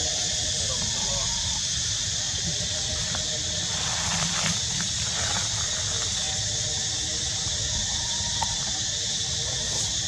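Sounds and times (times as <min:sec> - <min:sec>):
forest insects droning: 0:00.0 - 0:10.0.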